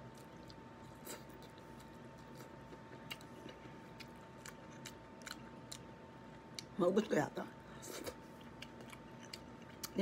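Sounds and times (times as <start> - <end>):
faint chewing: 0.0 - 6.8, 7.8 - 10.0
faint steady hum: 0.0 - 10.0.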